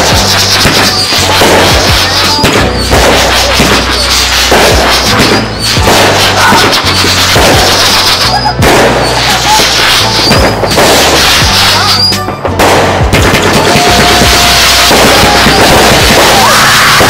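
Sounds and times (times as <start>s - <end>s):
fireworks bangs and crackles: 0.0s - 17.0s
music with low bass: 0.0s - 17.0s.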